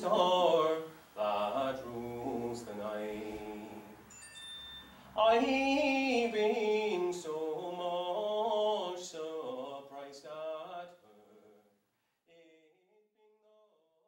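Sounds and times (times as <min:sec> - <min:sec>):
man singing unaccompanied: 0:00.0 - 0:04.1, 0:05.2 - 0:11.7, 0:12.3 - 0:13.7.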